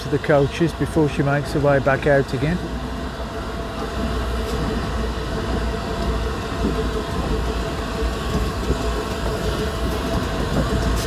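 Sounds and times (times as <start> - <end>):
steam locomotive rumbling past: 0.0 - 11.0.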